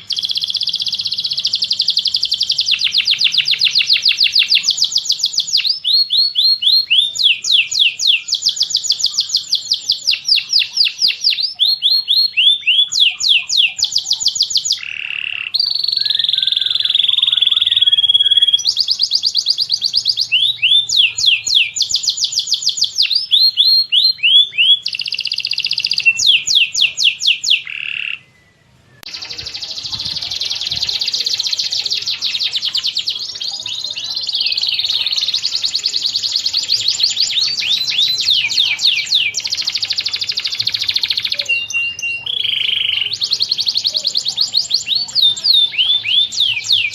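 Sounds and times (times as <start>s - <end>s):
bird warbling and twittering: 0.0s - 46.9s
birds singing high falling notes: 0.0s - 46.9s.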